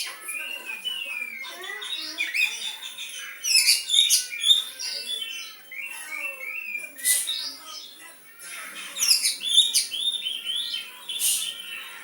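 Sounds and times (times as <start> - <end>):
magpie-robin singing: 0.0 - 8.0, 8.8 - 12.0.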